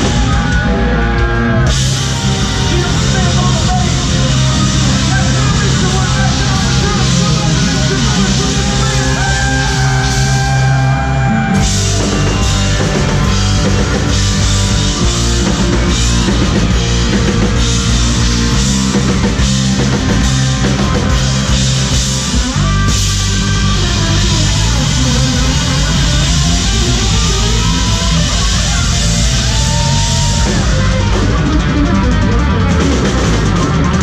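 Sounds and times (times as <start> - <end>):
drum kit: 0.0 - 34.0
electric guitar lead: 0.0 - 34.0.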